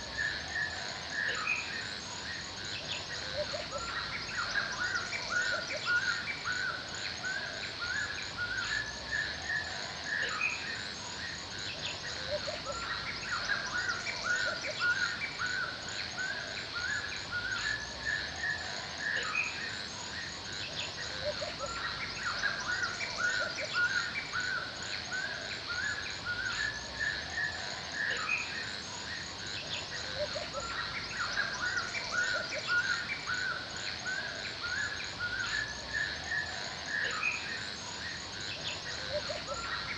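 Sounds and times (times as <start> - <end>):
birds chirping and calling: 0.0 - 39.9
high insect hum: 0.0 - 39.9.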